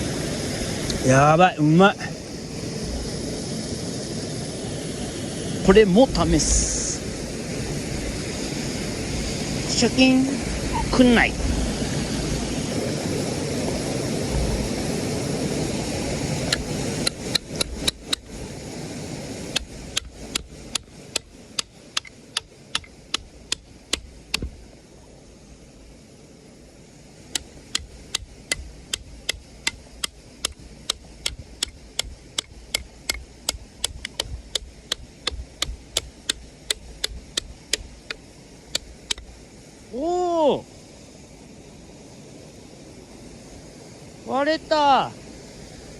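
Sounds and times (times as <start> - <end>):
steady rushing noise: 0.0 - 45.9.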